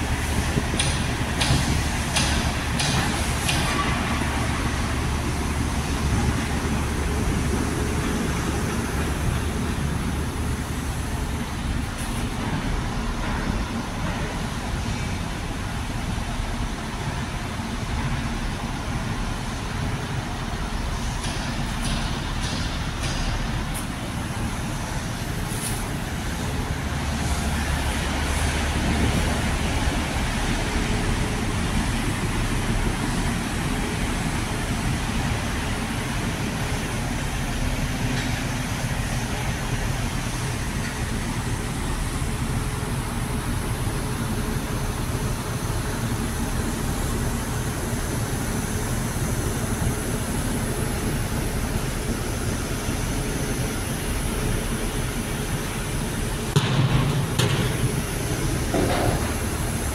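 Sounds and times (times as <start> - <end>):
outdoor rumble and hiss: 0.0 - 59.9.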